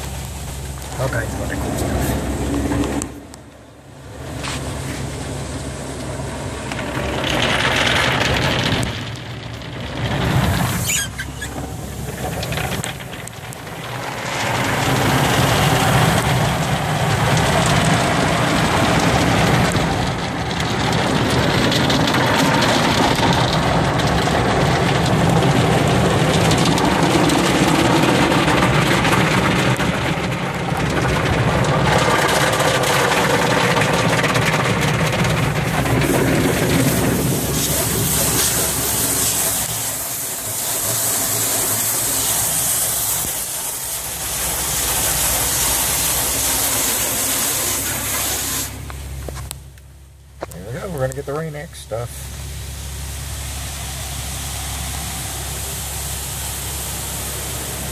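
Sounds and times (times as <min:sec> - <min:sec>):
car wash machinery: 0:00.0 - 0:57.9
water spray beating on glass: 0:04.2 - 0:49.4, 0:50.6 - 0:57.9.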